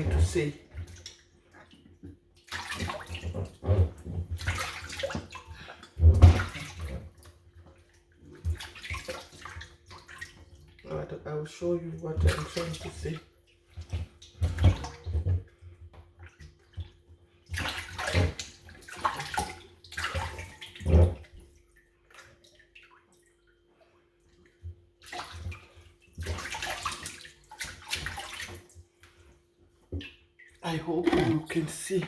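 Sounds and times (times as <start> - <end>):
water sloshing in a bowl: 0.0 - 32.0.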